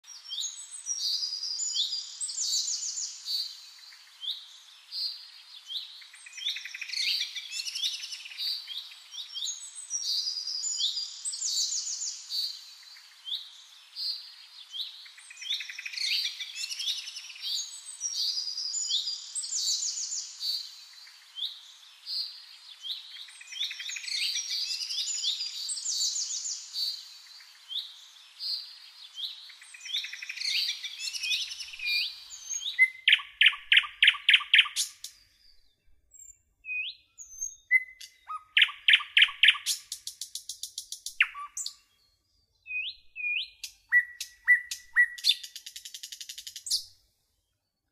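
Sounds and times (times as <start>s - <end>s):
birds chirping and singing: 0.2s - 46.9s.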